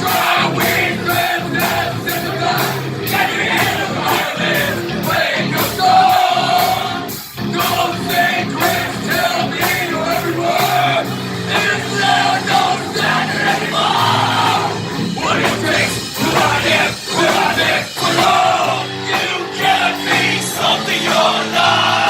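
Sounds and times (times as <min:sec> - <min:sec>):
heavy metal band playing: 0:00.0 - 0:22.0
shouted singing: 0:00.0 - 0:22.0.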